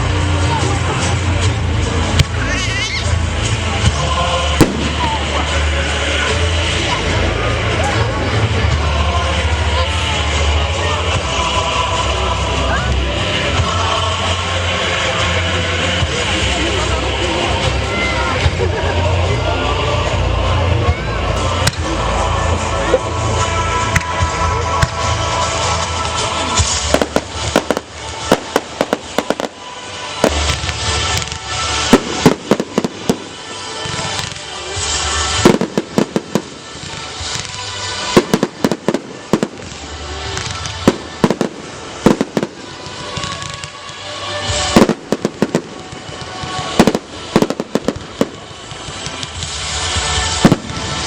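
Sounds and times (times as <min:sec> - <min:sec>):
fireworks bangs and crackles: 0:00.0 - 0:51.0
music playing: 0:00.0 - 0:51.0.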